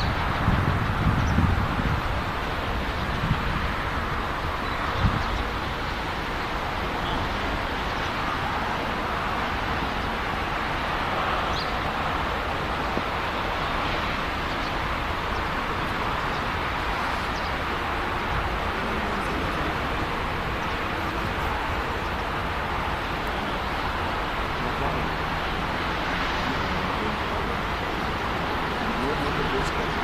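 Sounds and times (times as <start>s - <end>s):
moving vehicle rumble and hiss: 0.0s - 30.0s.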